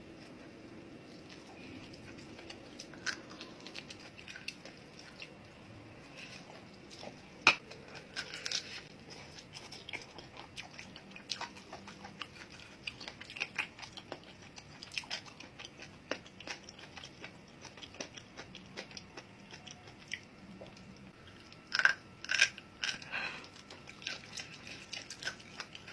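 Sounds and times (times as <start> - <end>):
person chewing and crunching food: 0.0 - 25.9.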